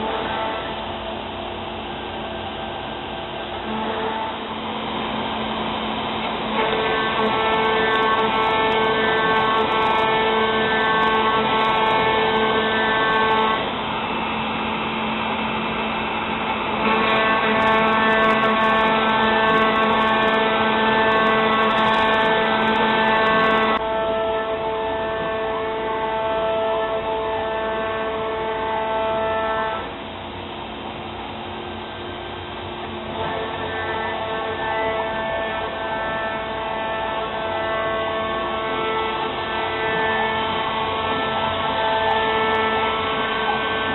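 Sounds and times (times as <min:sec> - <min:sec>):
router spindle whining: 0:00.0 - 0:30.0, 0:31.9 - 0:43.9.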